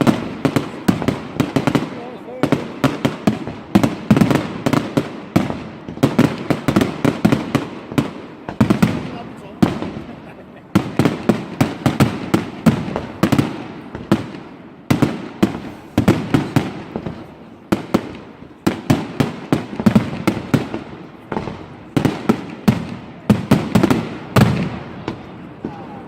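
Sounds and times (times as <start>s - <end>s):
fireworks bangs with echo: 0.0s - 26.0s.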